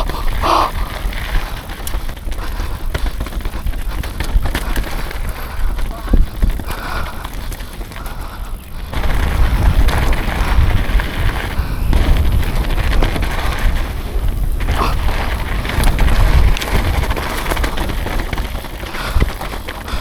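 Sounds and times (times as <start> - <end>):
mountain bike rattling on dirt trail: 0.0 - 20.0
wind rumbling on microphone: 0.0 - 20.0.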